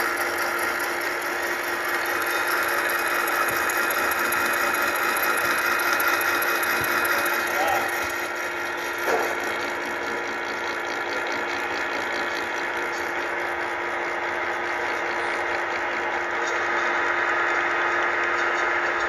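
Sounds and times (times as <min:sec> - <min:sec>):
machine humming: 0:00.0 - 0:19.0
noisy mechanical sound: 0:00.0 - 0:19.0.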